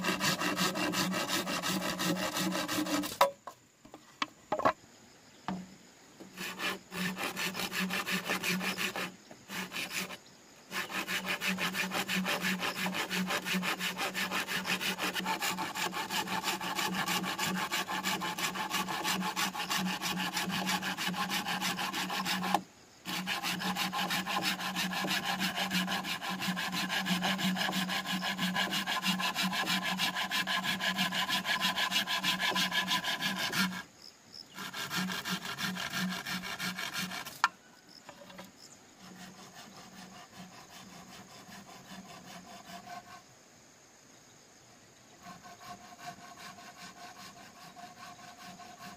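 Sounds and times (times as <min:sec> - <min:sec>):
hand saw cutting bamboo: 0:00.0 - 0:03.4, 0:06.3 - 0:33.9, 0:34.6 - 0:37.5, 0:39.0 - 0:43.2, 0:45.2 - 0:48.9.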